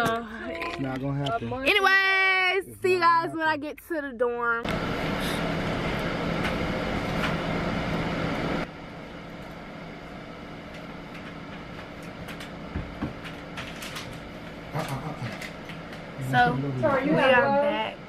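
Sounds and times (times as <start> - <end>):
mechanical hum with low tones: 0.0 - 18.0
room hum: 0.0 - 18.0.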